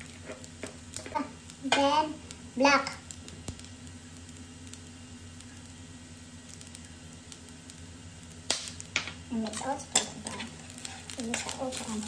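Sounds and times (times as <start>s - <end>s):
rice sizzling in a pan: 0.0s - 12.0s.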